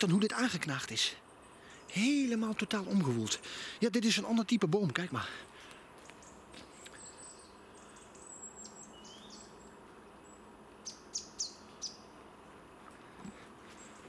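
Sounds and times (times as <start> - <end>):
faint background hiss: 0.0 - 14.0
songbirds high notes: 0.0 - 14.0.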